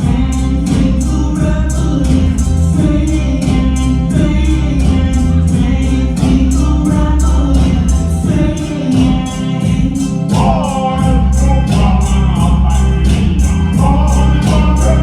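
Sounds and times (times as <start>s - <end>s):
music with singing and heavy bass: 0.0s - 15.0s.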